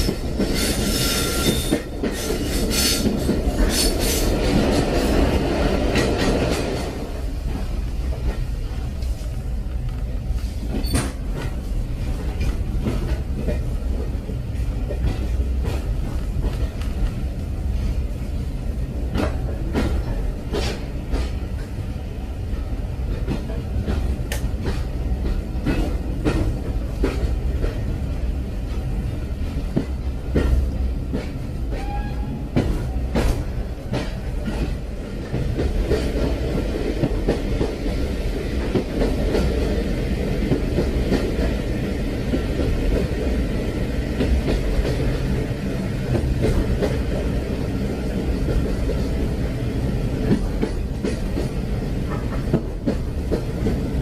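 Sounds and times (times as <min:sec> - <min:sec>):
train rumbling along rails: 0:00.0 - 0:54.0.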